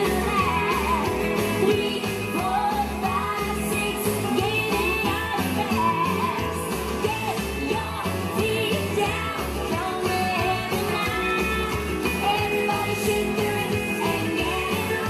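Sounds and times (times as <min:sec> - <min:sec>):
rock and roll song with singing: 0:00.0 - 0:15.0.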